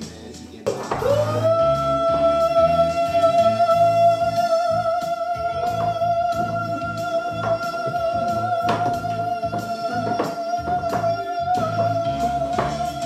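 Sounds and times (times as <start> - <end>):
pulsing bass line: 1.0 - 13.0.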